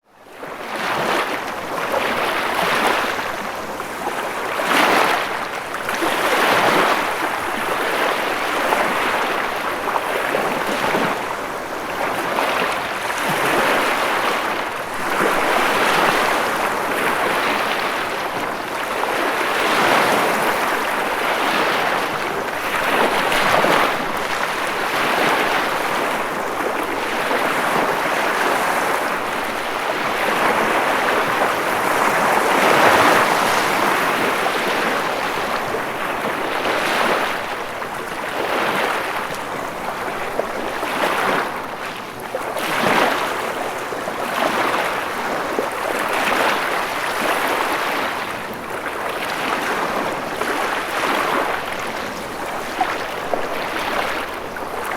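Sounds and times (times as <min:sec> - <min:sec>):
ocean waves breaking on shore: 0:00.2 - 0:54.9.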